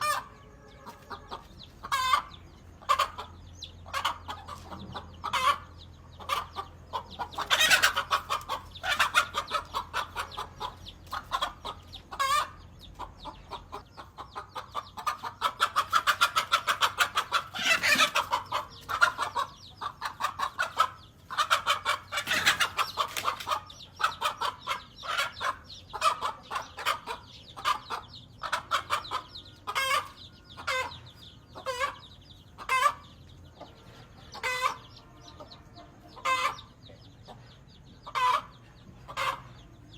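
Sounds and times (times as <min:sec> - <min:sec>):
hen clucking: 0:00.0 - 0:39.9.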